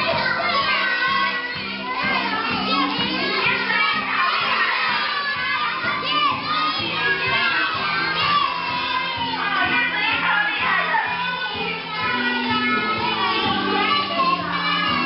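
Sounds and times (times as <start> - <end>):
children shouting and cheering: 0.0 - 15.0
children's music: 0.0 - 15.0.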